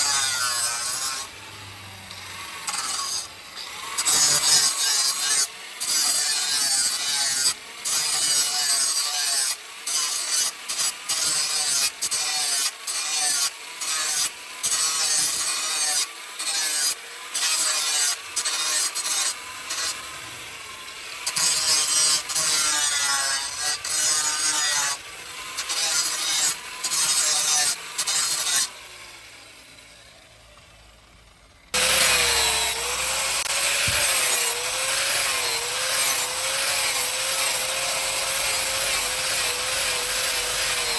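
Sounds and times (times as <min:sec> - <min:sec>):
steel being cut and ground: 0:00.0 - 0:40.9.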